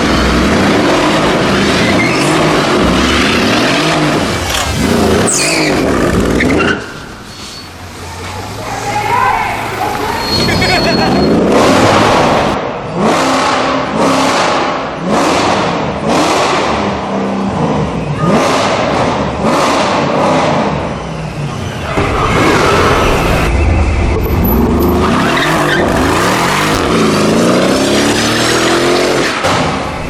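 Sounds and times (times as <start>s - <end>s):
car engine revving: 0.0s - 6.8s, 9.8s - 30.0s
tyres skidding: 0.0s - 30.0s.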